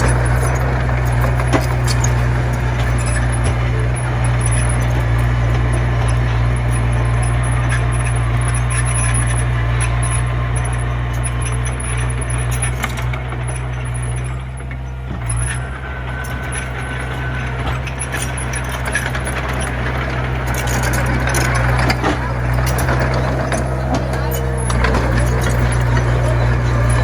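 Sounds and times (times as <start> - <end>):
diesel engine running: 0.0 - 27.0
metal clinking and rattling: 0.0 - 27.0.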